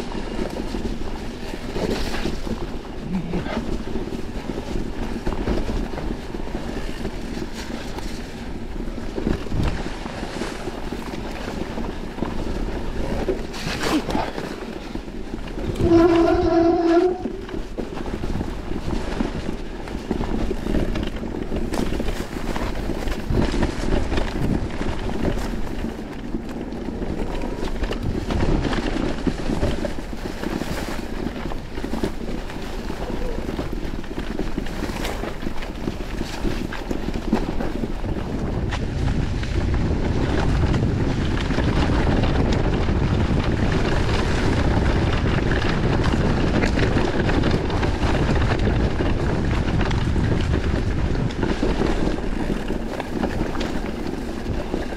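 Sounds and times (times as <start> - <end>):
bike knocks and rattles: 0.0 - 54.9
tyres rumbling on trail: 0.0 - 54.9
wind on microphone: 0.0 - 54.9.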